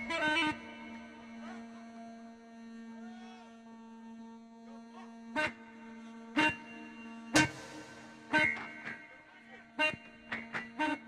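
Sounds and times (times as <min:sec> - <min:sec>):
buzzy reed pipe drone: 0:00.0 - 0:11.0.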